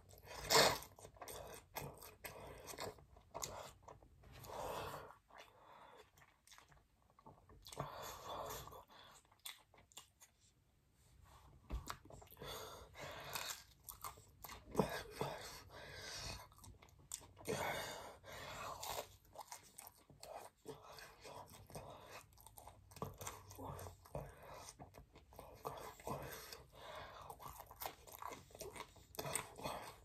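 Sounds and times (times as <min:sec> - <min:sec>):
person chewing pizza: 0:00.0 - 0:10.6, 0:11.7 - 0:30.0.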